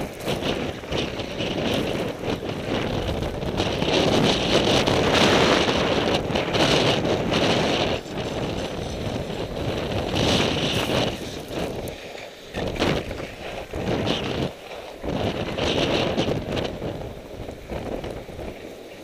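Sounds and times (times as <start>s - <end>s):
skis hissing over snow: 0.0s - 19.0s
wind buffeting microphone: 0.0s - 19.0s.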